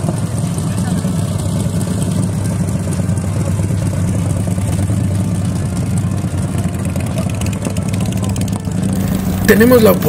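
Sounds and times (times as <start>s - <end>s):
motorcycles engine drone: 0.0s - 10.0s.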